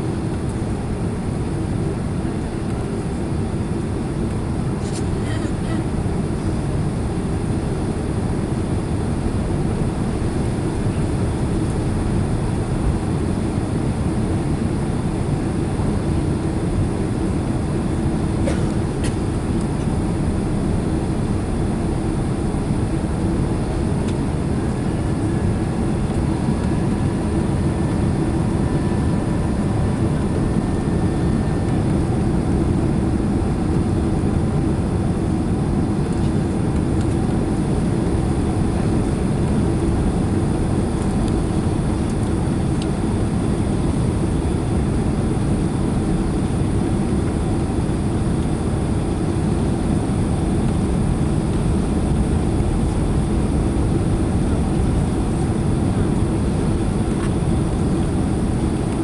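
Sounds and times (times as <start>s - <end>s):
airliner engines roaring: 0.0s - 59.0s.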